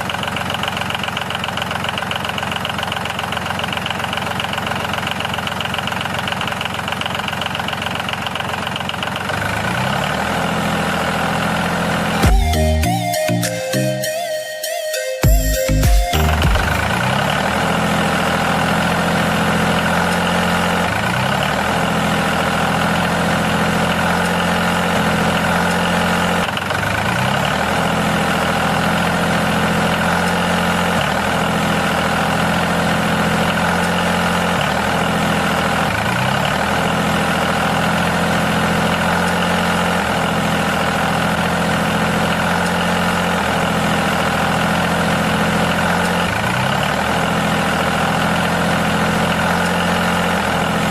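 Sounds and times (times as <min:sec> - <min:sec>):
engine running steadily: 0:00.0 - 0:13.9, 0:15.2 - 0:50.9.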